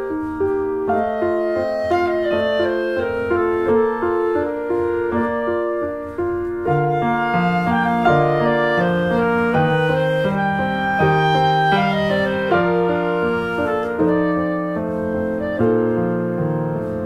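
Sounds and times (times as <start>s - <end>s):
gentle piano and woodwind melody: 0.0s - 17.0s.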